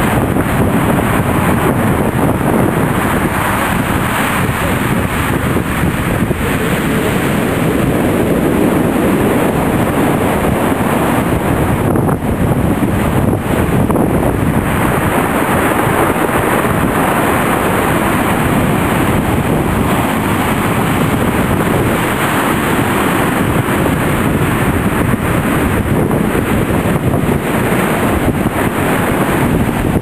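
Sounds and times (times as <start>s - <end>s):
storm surf breaking: 0.0s - 30.0s
wind buffeting microphone: 0.0s - 30.0s.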